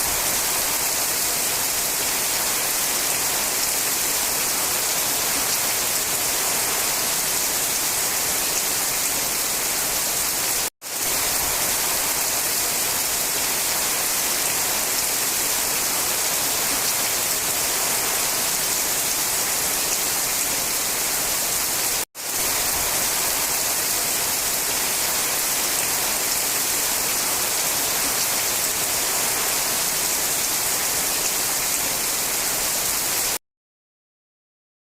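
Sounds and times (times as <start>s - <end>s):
steady rain falling: 0.0s - 33.4s.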